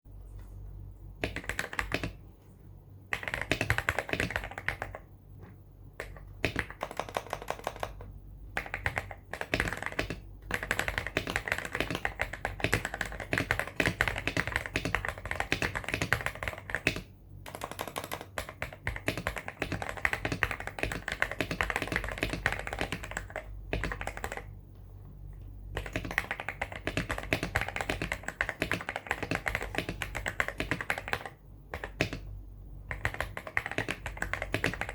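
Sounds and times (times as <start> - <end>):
mechanical keyboard typing: 1.2 - 2.2, 3.1 - 5.1, 6.0 - 24.6, 25.7 - 34.9.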